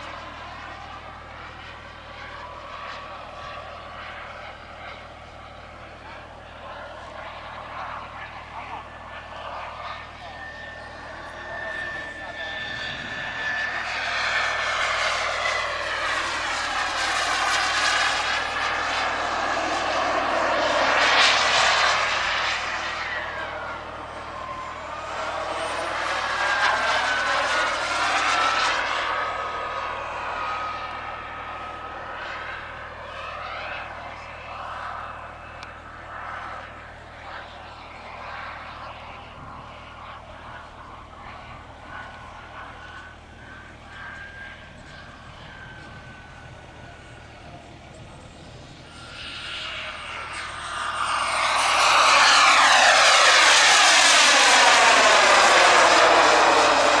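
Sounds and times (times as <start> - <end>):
model jet turbine roar and whine: 0.0 - 57.0.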